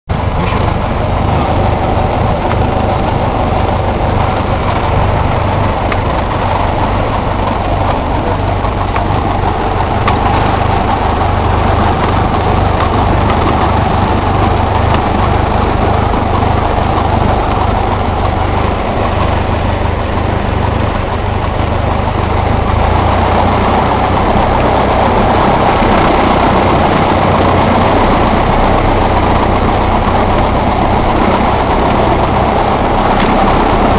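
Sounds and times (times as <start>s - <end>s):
piston aircraft engine idling: 0.1s - 33.9s.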